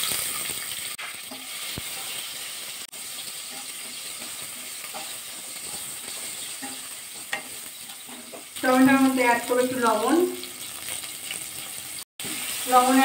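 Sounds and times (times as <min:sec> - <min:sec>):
tomatoes sizzling in hot oil: 0:00.0 - 0:13.0.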